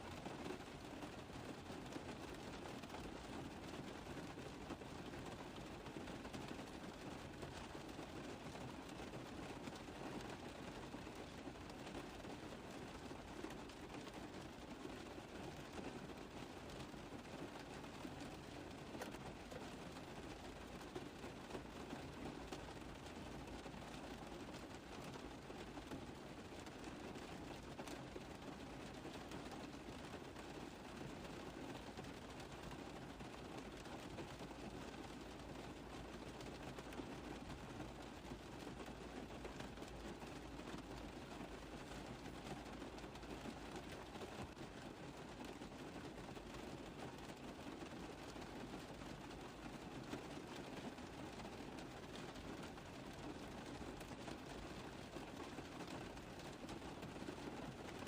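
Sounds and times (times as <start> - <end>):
rain on a car roof: 0.0 - 58.0.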